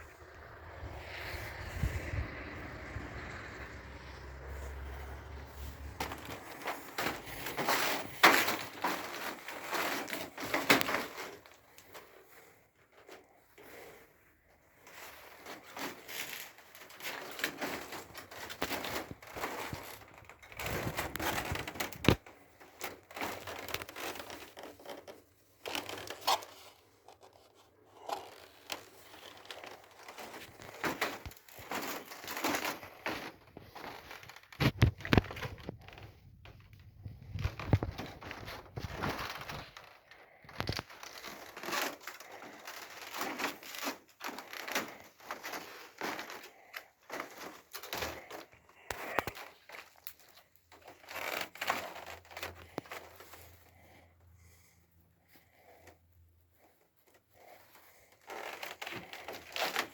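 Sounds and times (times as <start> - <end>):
rustling and crinkling: 0.0 - 59.9.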